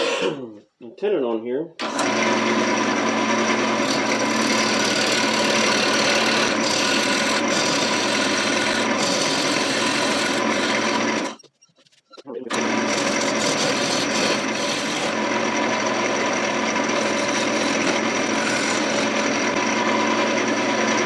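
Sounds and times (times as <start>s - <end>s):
turning tool rasping wood: 0.0s - 0.4s, 1.8s - 21.0s
lathe motor hum: 1.8s - 11.4s, 12.5s - 21.0s.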